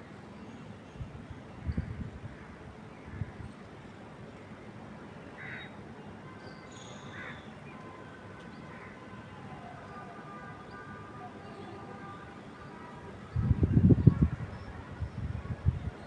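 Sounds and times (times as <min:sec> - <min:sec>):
wind through trees: 0:00.0 - 0:16.0.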